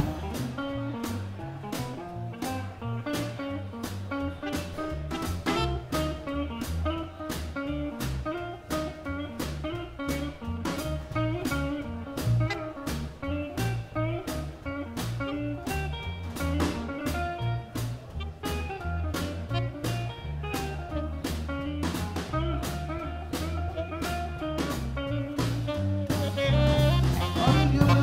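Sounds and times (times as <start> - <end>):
bass guitar: 0.0 - 28.0
drum beat: 0.0 - 28.0
electric guitar: 0.0 - 28.0
saxophone: 2.2 - 28.0.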